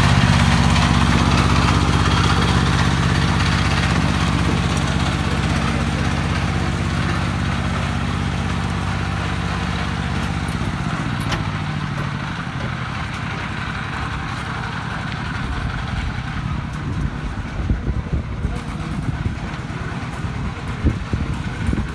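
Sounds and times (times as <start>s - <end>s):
vehicle engine running: 0.0s - 21.9s.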